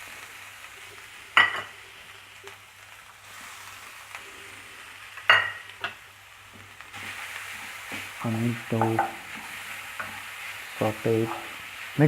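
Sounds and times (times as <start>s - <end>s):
carrot sizzling in a pan: 0.0s - 12.0s.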